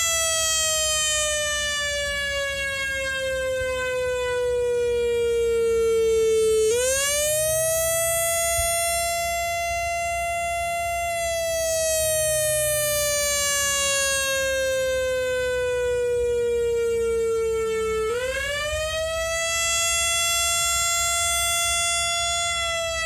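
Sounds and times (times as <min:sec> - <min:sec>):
warning siren sweeping tone: 0:00.0 - 0:23.0.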